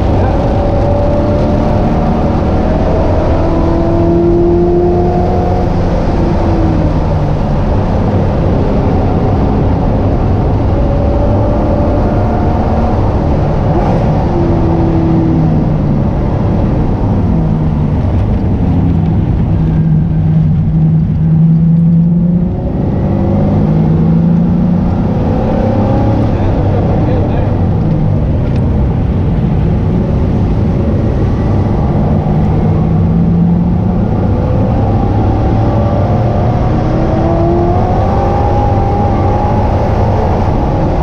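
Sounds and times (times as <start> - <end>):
car engine running hard: 0.0 - 41.0.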